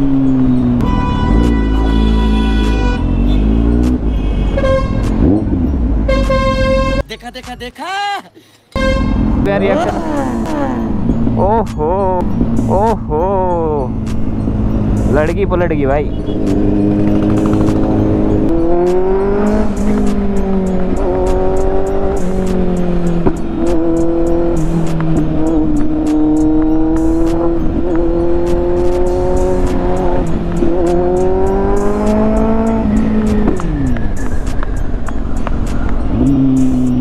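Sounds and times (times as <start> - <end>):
motorcycle engine cruising: 0.0 - 7.0, 8.9 - 37.0.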